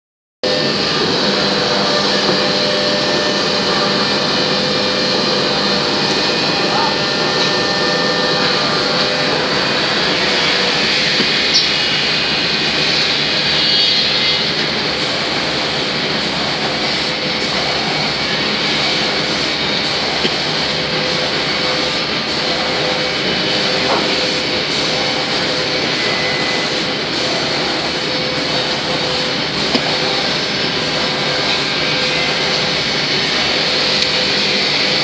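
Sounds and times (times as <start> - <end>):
spray-painting machine running: 0.4 - 35.0.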